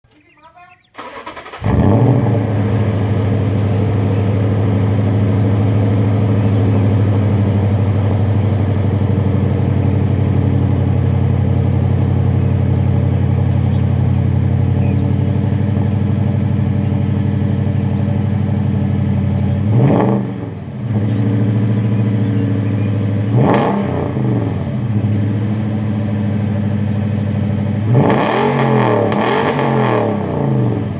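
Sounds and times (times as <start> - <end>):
truck engine idling: 0.1 - 19.8, 20.5 - 23.3, 24.6 - 27.9
truck engine revving: 1.0 - 30.9.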